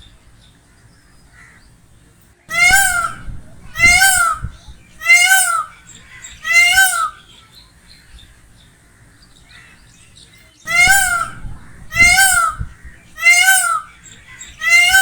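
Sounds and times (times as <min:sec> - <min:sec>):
peacock calling: 0:02.5 - 0:15.0.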